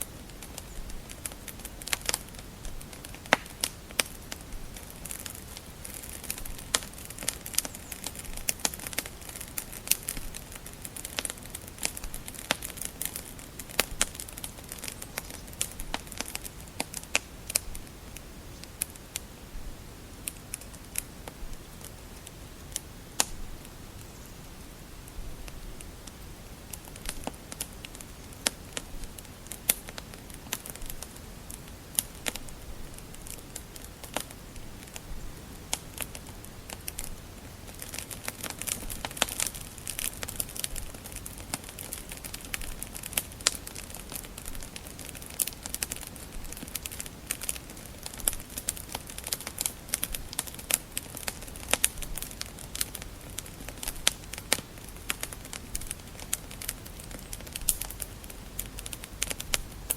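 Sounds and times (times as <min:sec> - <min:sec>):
soft hiss: 0:00.0 - 0:59.9
wood fire crackling and popping: 0:00.0 - 0:59.9.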